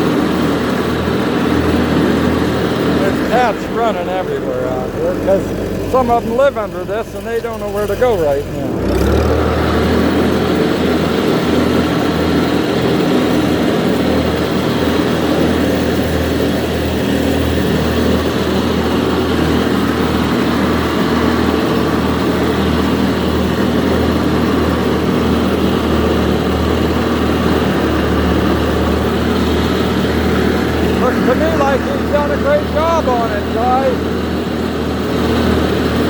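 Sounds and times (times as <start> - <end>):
tractor engine running steadily: 0.0 - 36.0.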